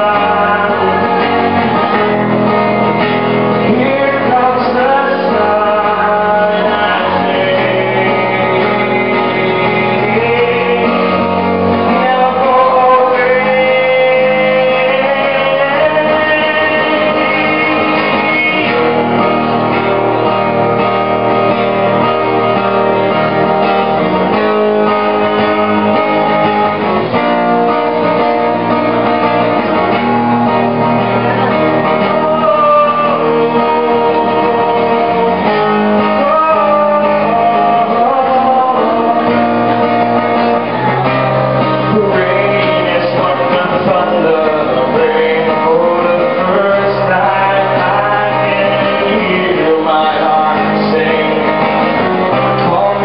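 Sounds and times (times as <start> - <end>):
guitar playing: 0.0 - 53.0
man singing: 0.0 - 53.0.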